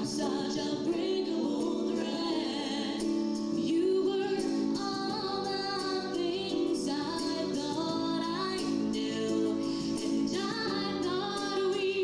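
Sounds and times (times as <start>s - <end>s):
singing with vibrato over music: 0.0s - 12.0s.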